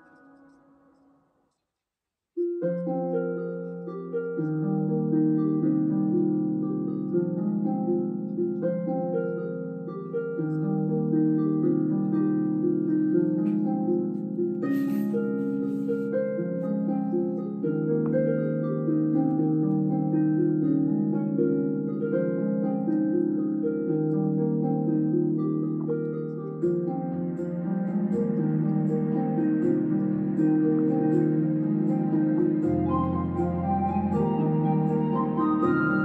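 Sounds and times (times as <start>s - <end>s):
slow harp music: 0.0s - 1.1s, 2.4s - 36.0s.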